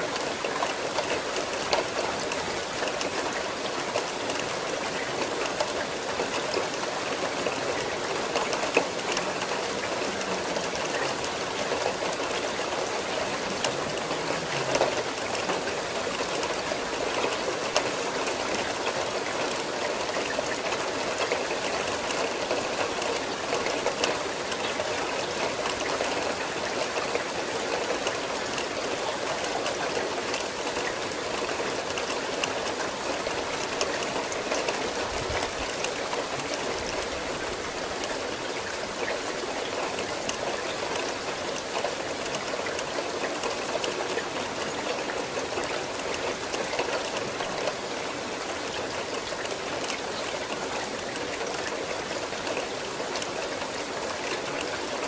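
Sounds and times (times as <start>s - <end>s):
individual raindrops ticking: 0.0s - 55.0s
steady rain falling: 0.0s - 55.0s.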